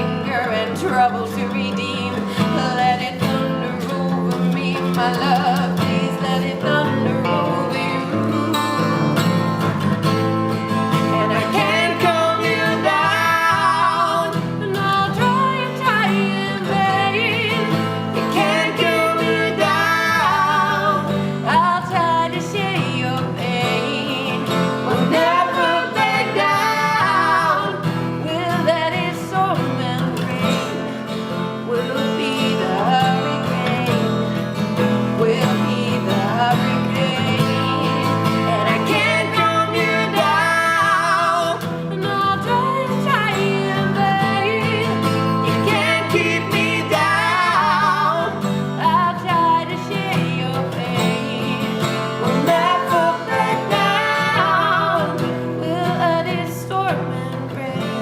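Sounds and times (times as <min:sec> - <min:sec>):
woman singing with vibrato: 0:00.0 - 0:09.6, 0:10.7 - 0:58.0
acoustic guitar chords: 0:00.0 - 0:58.0.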